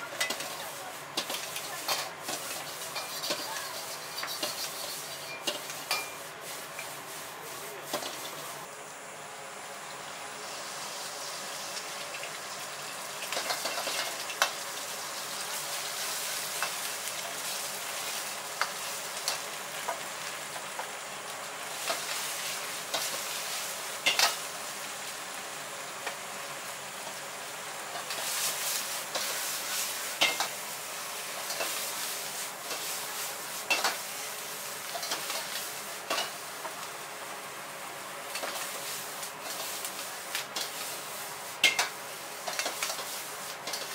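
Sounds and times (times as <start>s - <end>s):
food sizzling in a wok: 0.0s - 43.9s.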